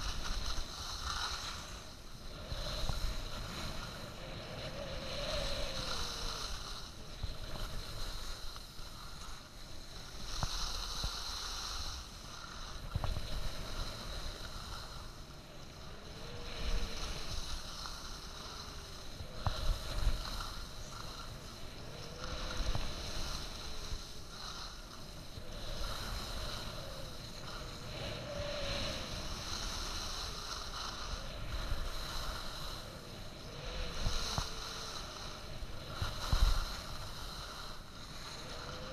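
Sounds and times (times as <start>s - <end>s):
skis scraping on snow: 0.0s - 38.9s
wind rumble: 0.0s - 38.9s.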